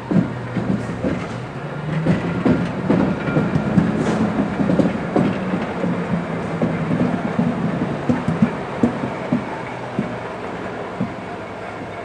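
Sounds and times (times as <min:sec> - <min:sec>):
locomotive low hum: 0:00.0 - 0:12.0
train wheels knocking over rail joints: 0:00.0 - 0:12.0.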